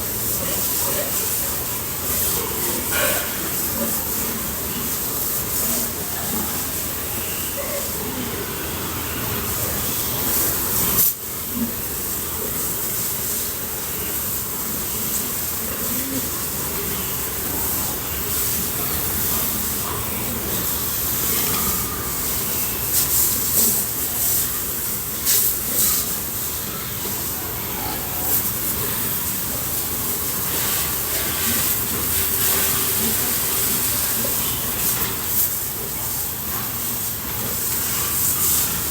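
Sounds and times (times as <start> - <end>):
water spraying from a hose: 0.0 - 38.9.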